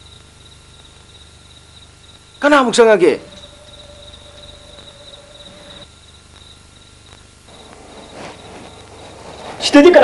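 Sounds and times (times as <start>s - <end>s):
crickets chirping: 0.0s - 10.0s
faint steady hum: 0.0s - 10.0s.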